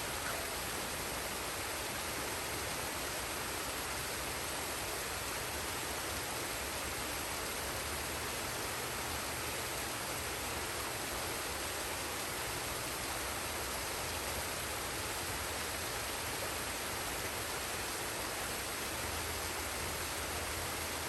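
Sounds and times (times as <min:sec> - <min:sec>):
waterfall and stream rushing: 0:00.0 - 0:21.0.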